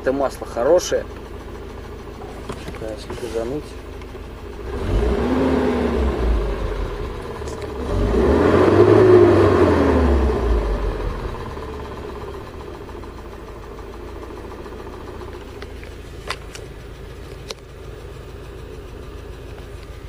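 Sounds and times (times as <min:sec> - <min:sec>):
car engine idling: 0:00.0 - 0:20.0
engine ticking: 0:00.0 - 0:20.0.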